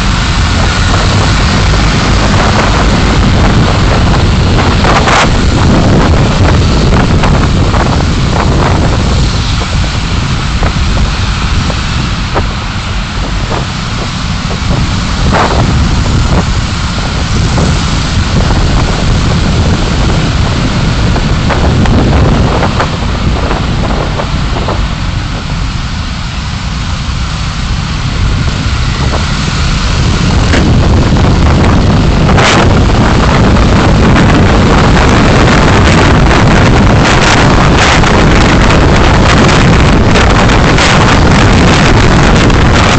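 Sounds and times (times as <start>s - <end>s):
car road and wind noise: 0.0s - 42.9s.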